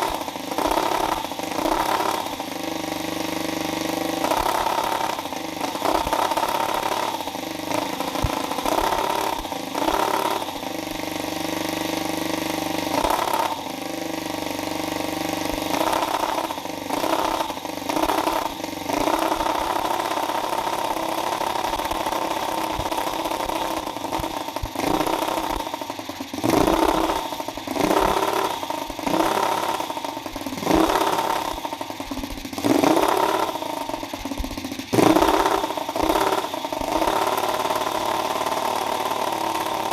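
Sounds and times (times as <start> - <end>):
radial engine idling and revving: 0.0 - 39.9.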